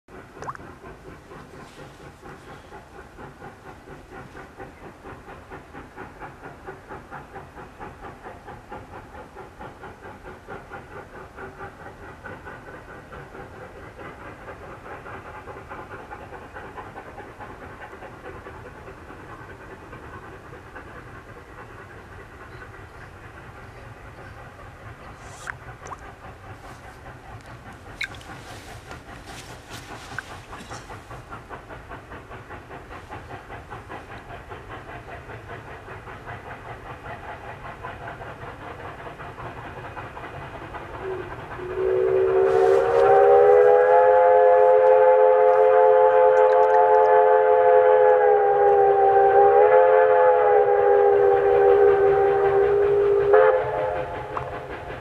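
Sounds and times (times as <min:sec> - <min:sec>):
steam locomotives chuffing: 0:00.1 - 0:55.0.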